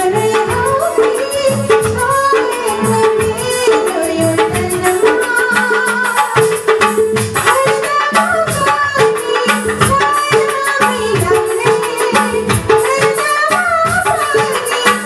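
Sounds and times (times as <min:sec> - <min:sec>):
hand drum rhythm: 0:00.0 - 0:15.0
woman singing into microphone: 0:00.0 - 0:15.0.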